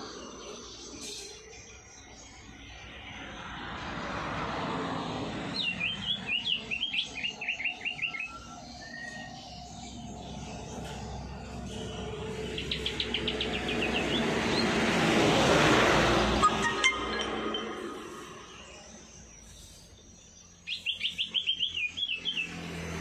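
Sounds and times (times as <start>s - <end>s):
steady background noise: 0.0s - 22.0s
songbird chirping: 0.0s - 23.0s.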